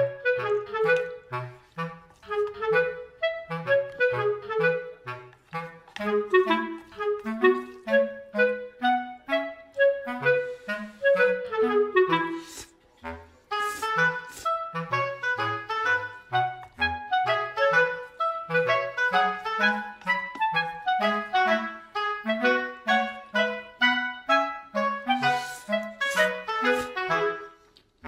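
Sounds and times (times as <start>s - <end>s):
instrumental background music: 0.0s - 28.0s.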